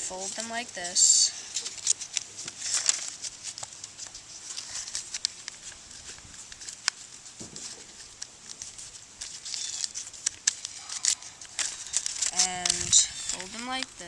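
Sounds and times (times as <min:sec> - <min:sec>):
paper folding clicks: 0:00.0 - 0:14.0
paper rustling and crinkling: 0:00.0 - 0:14.0.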